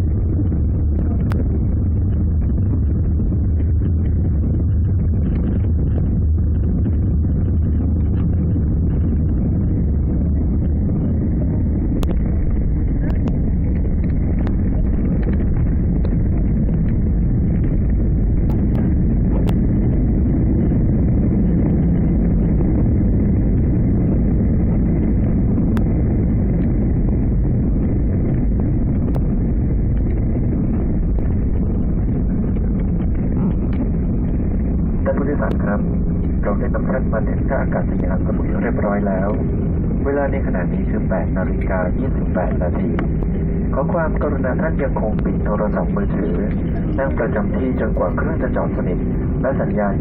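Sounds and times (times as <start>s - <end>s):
muffled airplane rumble in cabin: 0.0s - 50.0s.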